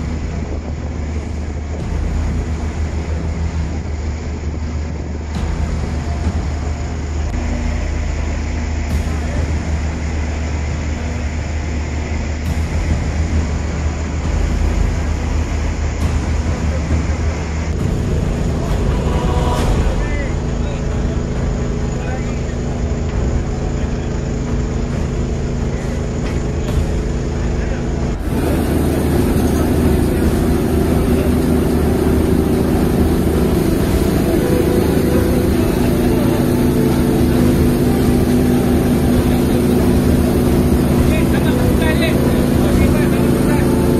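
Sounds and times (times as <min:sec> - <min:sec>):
boat engine rumbling: 0:00.0 - 0:43.9
even hiss: 0:00.0 - 0:43.9.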